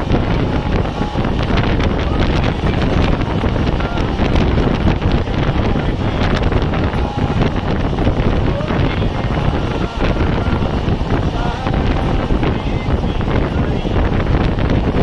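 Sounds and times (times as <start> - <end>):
train coaches rumbling on track: 0.0 - 15.0
wind rushing over microphone: 0.0 - 15.0.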